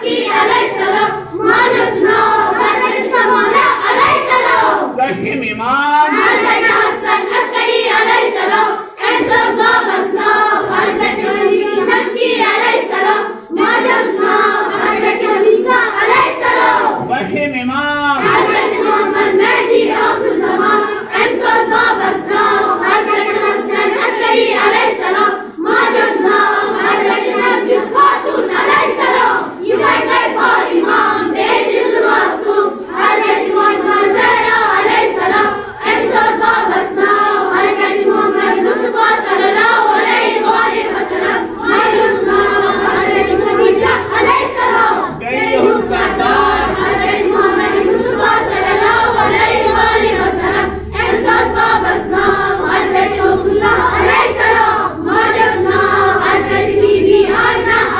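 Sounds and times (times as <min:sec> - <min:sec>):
children chanting in chorus: 0:00.0 - 0:05.0, 0:06.1 - 0:17.1, 0:18.2 - 0:57.9.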